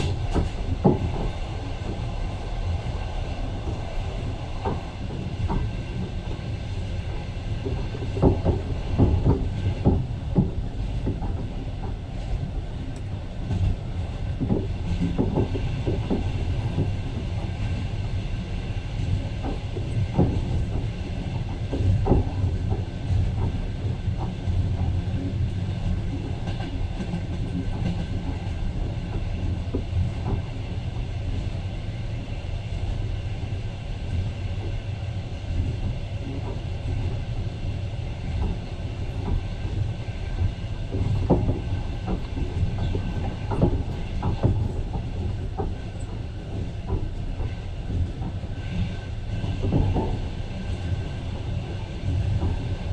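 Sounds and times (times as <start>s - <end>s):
train rumbling: 0.0s - 52.9s
wheels clicking on track: 0.0s - 52.9s.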